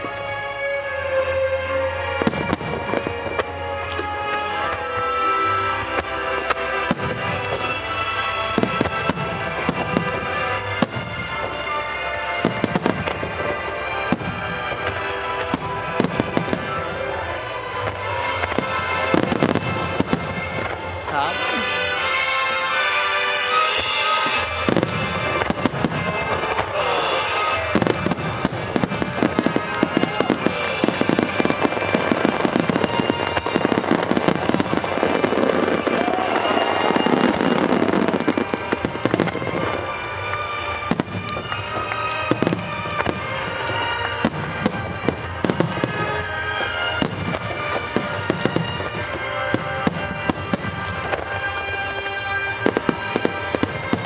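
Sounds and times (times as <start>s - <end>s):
fireworks bangs and crackling: 0.0s - 54.0s
music playing: 0.0s - 54.0s.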